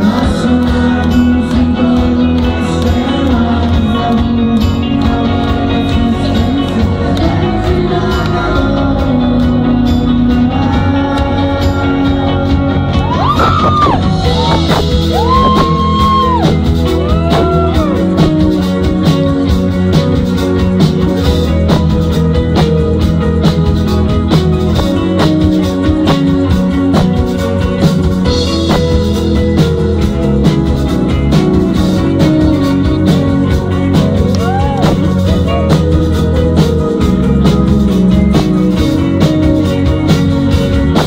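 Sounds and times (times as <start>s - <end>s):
high sliding melodic line: 0.0s - 41.0s
rock band music: 0.0s - 41.0s.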